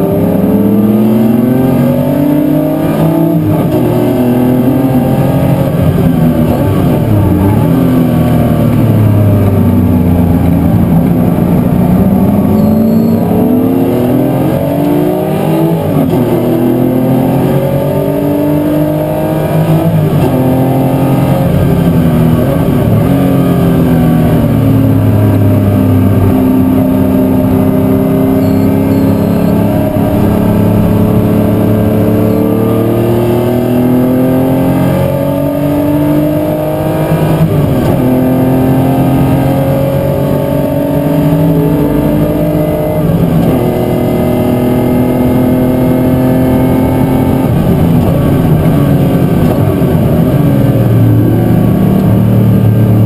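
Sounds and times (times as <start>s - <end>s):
racing car engines revving: 0.0s - 53.0s.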